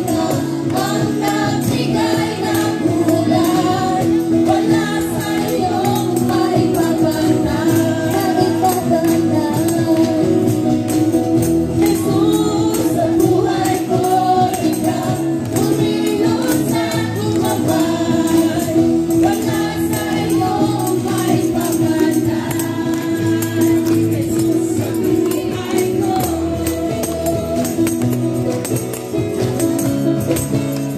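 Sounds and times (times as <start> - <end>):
voices singing together: 0.0 - 10.8, 11.7 - 28.4
worship band over loudspeakers: 0.0 - 30.9.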